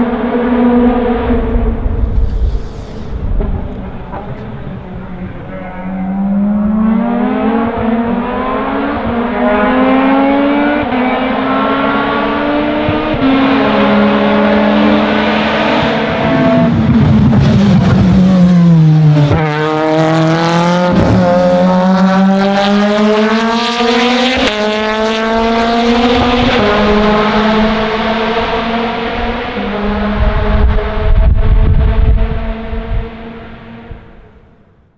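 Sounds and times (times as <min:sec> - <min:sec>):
race car engine at full throttle: 0:00.0 - 0:34.7.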